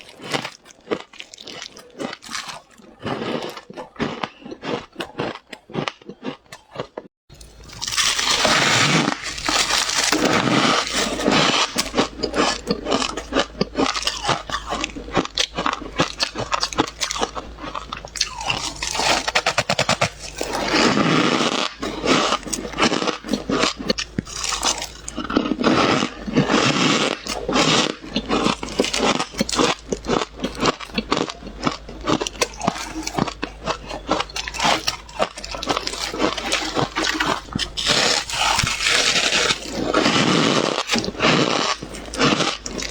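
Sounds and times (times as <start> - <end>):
biting into crunchy ice: 0.0 - 42.9.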